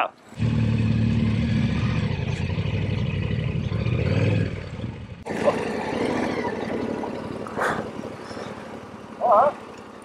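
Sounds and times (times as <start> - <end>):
motorcycle engine at low revs: 0.3 - 10.0.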